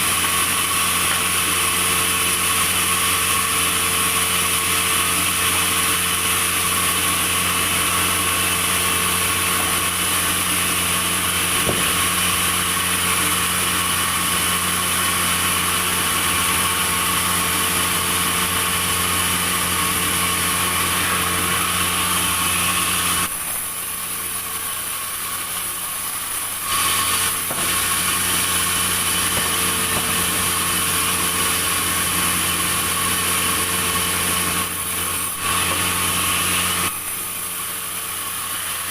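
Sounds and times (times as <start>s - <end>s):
sawmill machinery hum: 0.0s - 38.9s.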